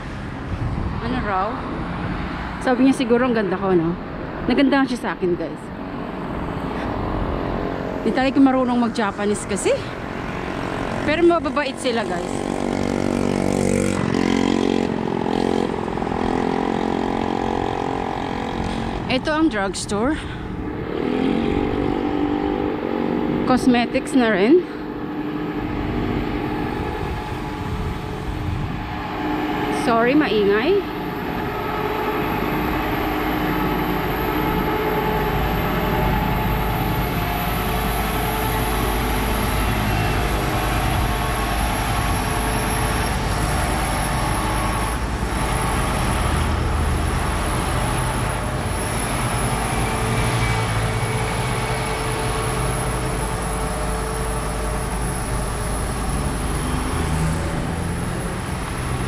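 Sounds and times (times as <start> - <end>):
pumping truck engine drone: 0.0 - 59.0.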